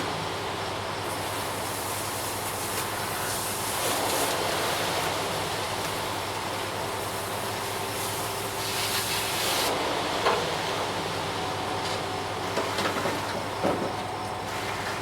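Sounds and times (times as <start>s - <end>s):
diesel engine and drum rumble: 0.0s - 15.0s.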